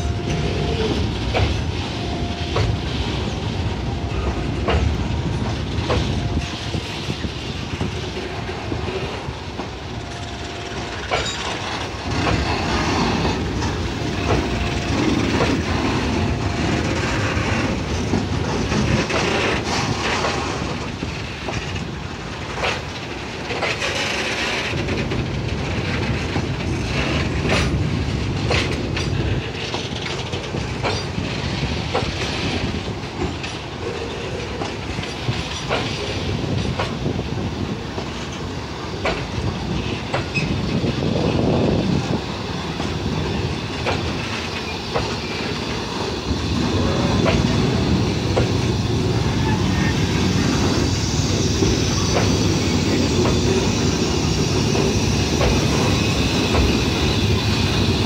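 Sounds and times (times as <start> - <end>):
wheels rumbling on rail: 0.0 - 58.0
wheels clacking over rail joints: 0.2 - 58.0.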